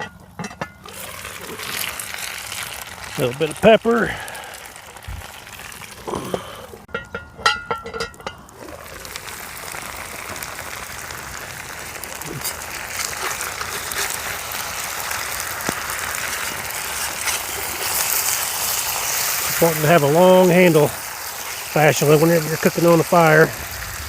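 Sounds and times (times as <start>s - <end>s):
potatoes sizzling in a skillet: 0.8s - 6.9s, 8.4s - 24.0s.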